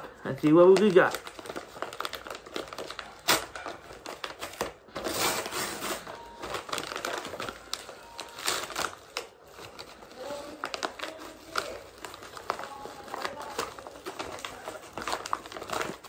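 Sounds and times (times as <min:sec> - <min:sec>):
paper envelope tearing and crinkling: 0:00.4 - 0:16.0.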